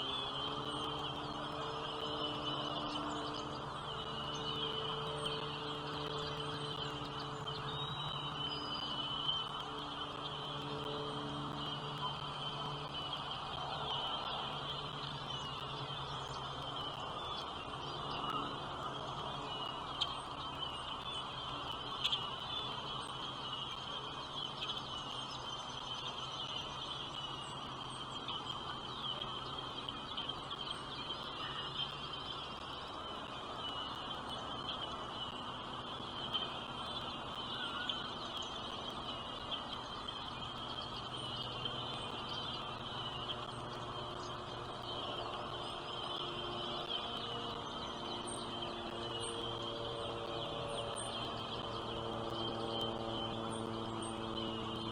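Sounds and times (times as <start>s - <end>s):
nestling birds chirping: 0.0s - 54.9s.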